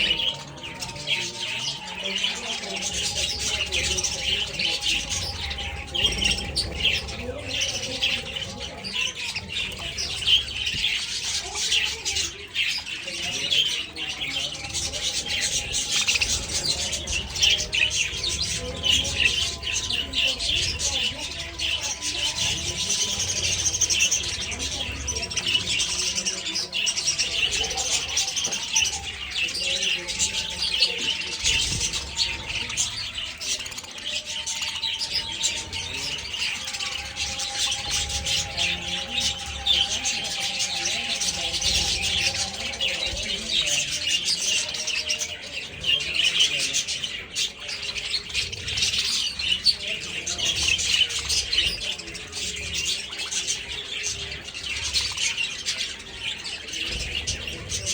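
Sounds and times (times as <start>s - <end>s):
budgerigars chattering and chirping: 0.0s - 57.9s.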